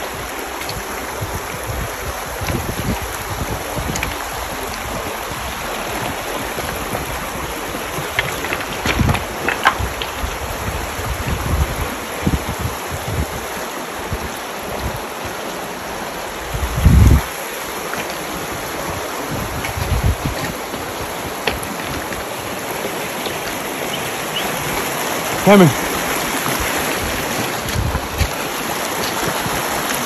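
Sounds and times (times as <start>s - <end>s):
wind buffeting microphone: 0.0s - 17.4s, 18.2s - 30.0s
creek running over gravel: 0.0s - 30.0s.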